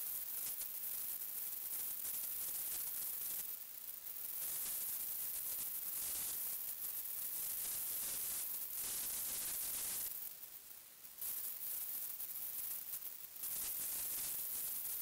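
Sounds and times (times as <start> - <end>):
high static hiss: 0.0 - 15.0.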